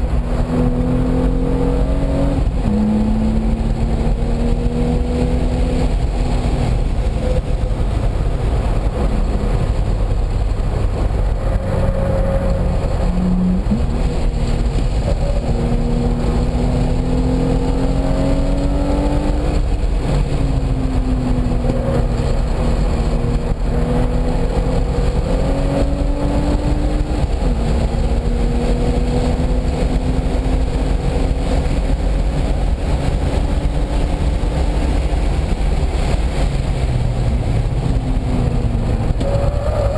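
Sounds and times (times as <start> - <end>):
car engine accelerating: 0.0 - 39.9
wind and road rumble: 0.0 - 39.9.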